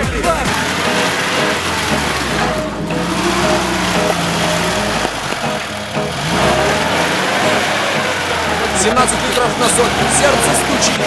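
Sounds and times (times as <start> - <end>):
music playing: 0.0 - 11.0
vehicle engine revving: 0.0 - 11.0.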